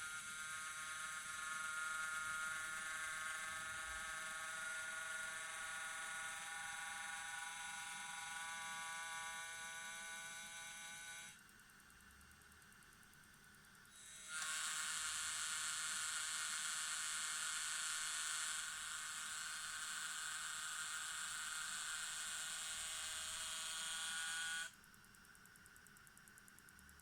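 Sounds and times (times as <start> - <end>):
cooling fan buzzing whine: 0.0 - 27.0.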